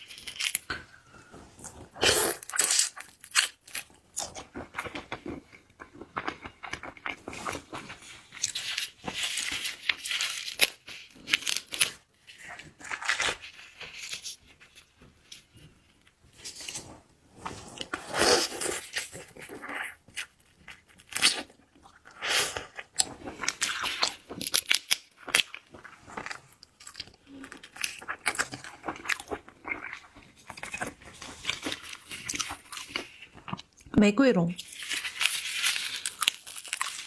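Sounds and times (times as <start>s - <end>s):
crunching and chewing: 0.0s - 33.9s, 34.6s - 37.0s.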